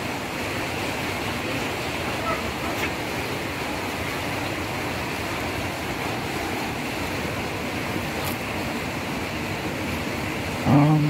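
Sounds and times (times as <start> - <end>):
rain on a roof: 0.0 - 11.0.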